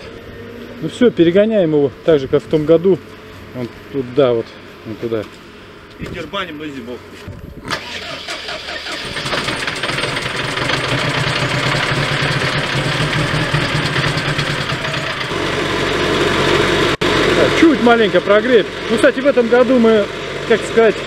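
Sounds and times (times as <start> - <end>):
truck engine starting and idling: 0.0 - 21.0.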